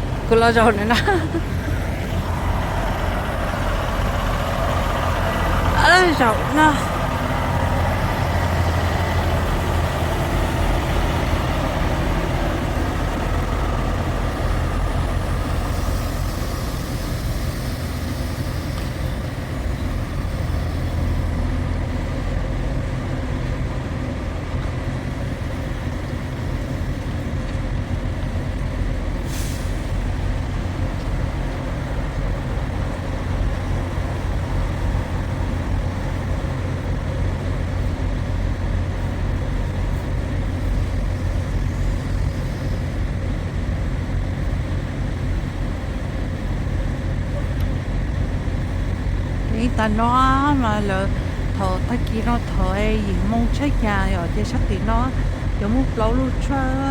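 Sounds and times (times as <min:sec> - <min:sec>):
road noise: 0:00.0 - 0:56.9
truck engine running: 0:00.0 - 0:56.9.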